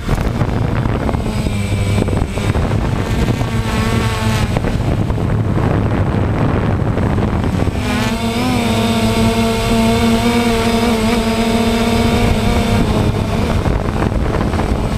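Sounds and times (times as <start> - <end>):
drone propellers buzzing: 0.0 - 14.9.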